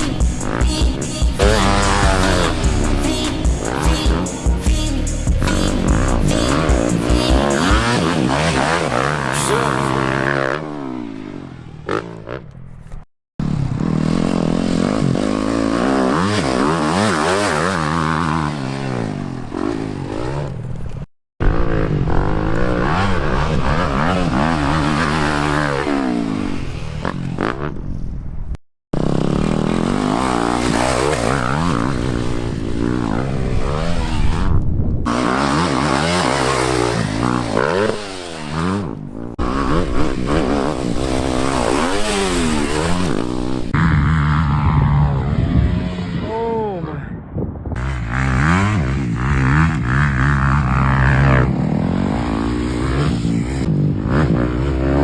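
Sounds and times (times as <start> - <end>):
dirt bike engines revving: 0.0 - 28.0, 29.0 - 47.2, 47.8 - 55.0.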